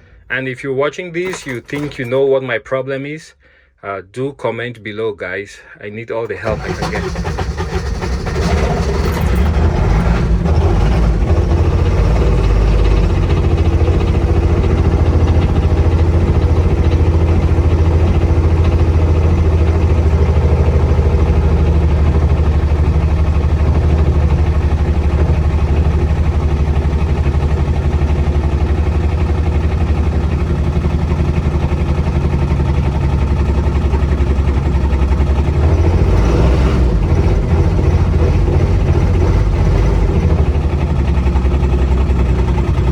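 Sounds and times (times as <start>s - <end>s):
diesel engine idling: 6.2s - 42.9s.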